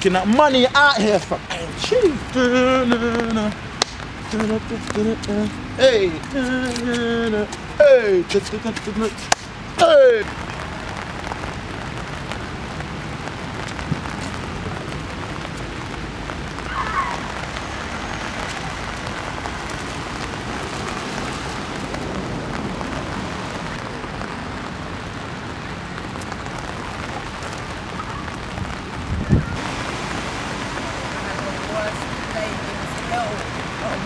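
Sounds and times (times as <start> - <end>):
rain falling on path and grass: 0.0 - 34.0.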